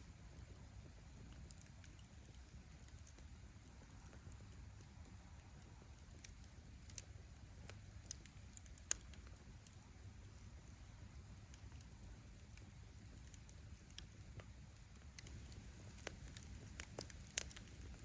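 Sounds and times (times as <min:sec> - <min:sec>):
campfire flames rumbling: 0:00.0 - 0:18.0
fire popping: 0:00.0 - 0:18.0
firewood crackling: 0:00.0 - 0:18.0.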